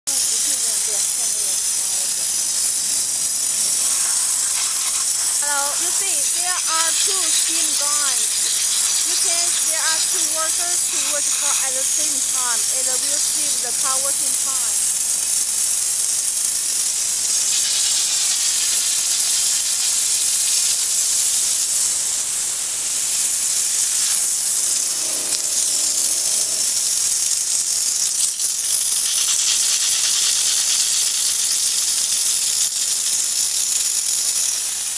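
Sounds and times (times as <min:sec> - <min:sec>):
steam jetting hiss: 0:00.1 - 0:34.9.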